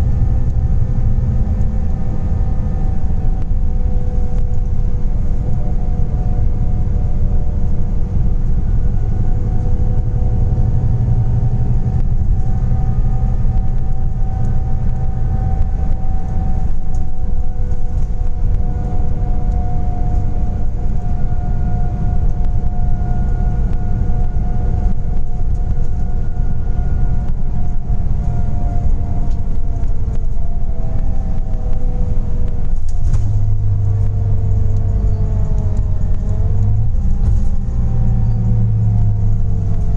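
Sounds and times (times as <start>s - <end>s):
bus engine rumble: 0.0s - 39.9s
bus whine: 0.0s - 39.9s.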